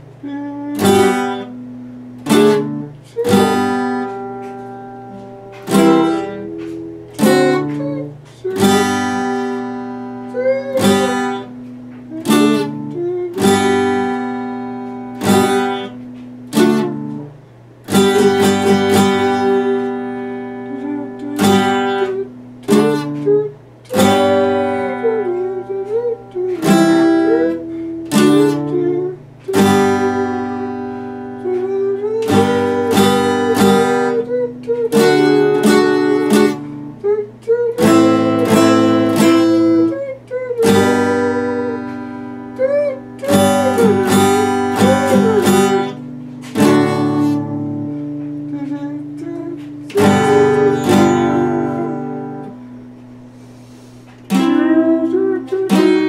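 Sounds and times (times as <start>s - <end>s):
acoustic guitar strumming: 0.0s - 56.0s
man singing: 0.2s - 1.6s, 5.1s - 14.4s, 17.9s - 52.6s, 54.3s - 56.0s.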